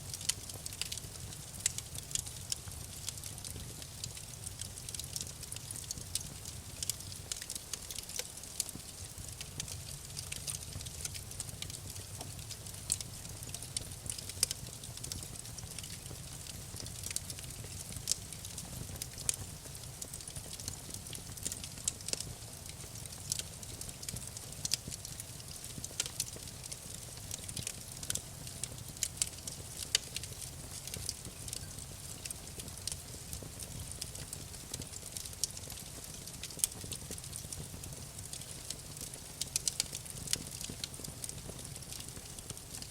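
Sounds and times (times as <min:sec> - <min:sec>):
campfire crackling and popping: 0:00.0 - 0:42.9
low rumble of burning fire: 0:00.0 - 0:42.9.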